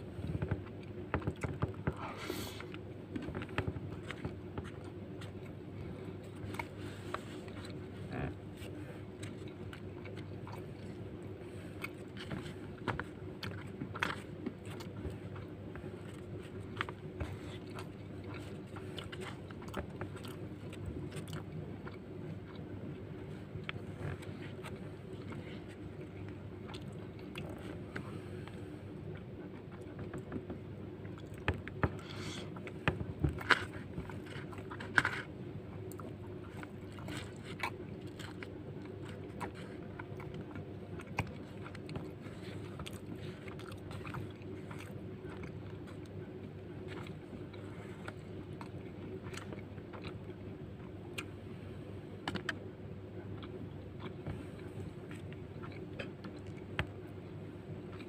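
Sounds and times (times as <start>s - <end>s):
person chewing: 0.0s - 51.5s, 52.1s - 58.0s.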